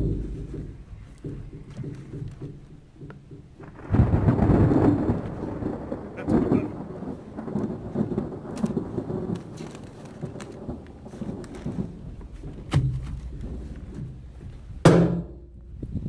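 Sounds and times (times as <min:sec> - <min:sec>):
plastic sheet flapping: 0:00.0 - 0:16.0
plastic sheeting rustling and crinkling: 0:00.0 - 0:16.0.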